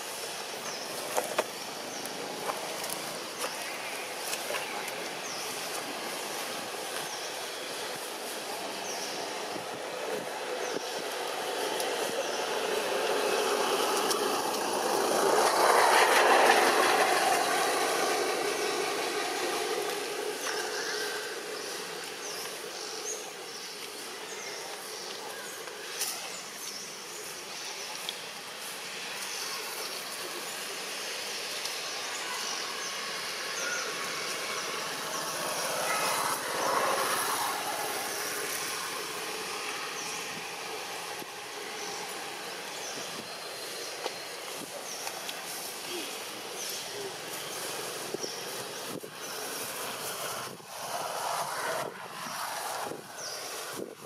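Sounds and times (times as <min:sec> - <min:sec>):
passing traffic rumble: 0:00.0 - 0:25.0, 0:28.5 - 0:54.0
outdoor background hiss: 0:00.0 - 0:54.0.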